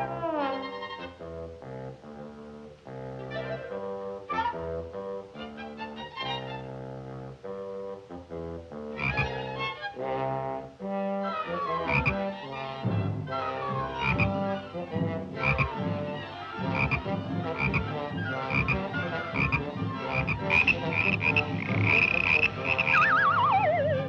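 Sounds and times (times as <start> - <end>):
cartoon orchestral music: 0.0 - 24.0.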